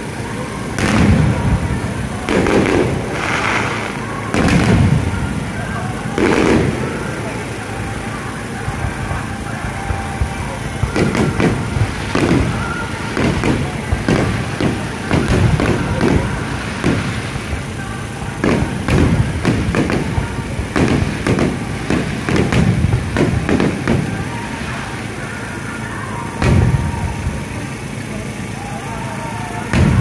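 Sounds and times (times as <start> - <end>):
fireworks booming: 0.0 - 30.0.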